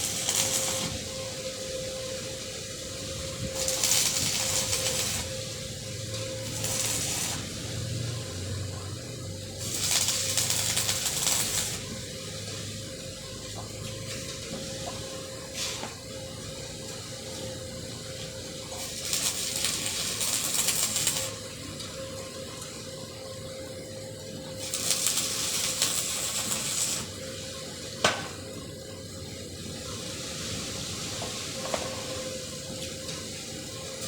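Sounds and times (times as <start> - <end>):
welding arc crackling: 0.0 - 34.0.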